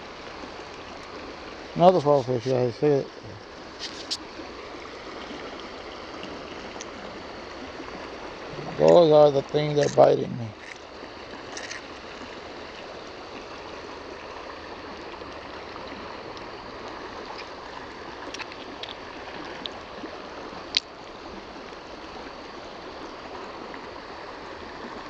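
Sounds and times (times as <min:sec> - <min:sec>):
stream water flowing: 0:00.0 - 0:25.0.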